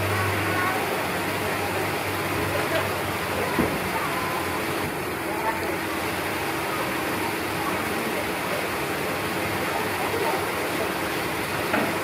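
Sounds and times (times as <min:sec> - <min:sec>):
water rushing over rock ledge: 0:00.0 - 0:12.0.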